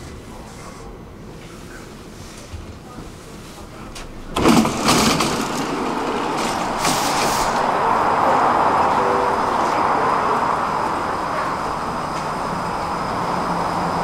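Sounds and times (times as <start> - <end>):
metro train rushing rumble: 0.0 - 14.0.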